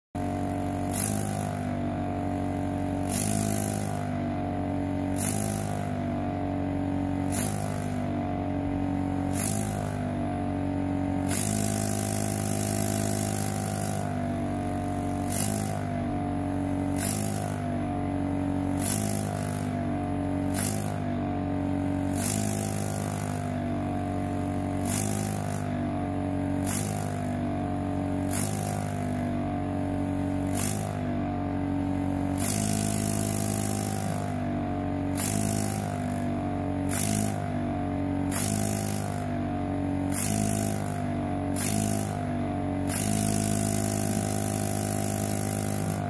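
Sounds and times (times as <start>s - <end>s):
air pump humming: 0.2s - 46.0s.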